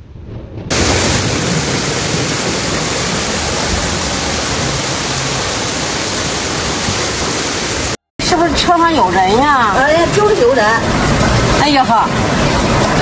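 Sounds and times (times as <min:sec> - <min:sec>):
water rushing from spillway gates: 0:00.7 - 0:13.0.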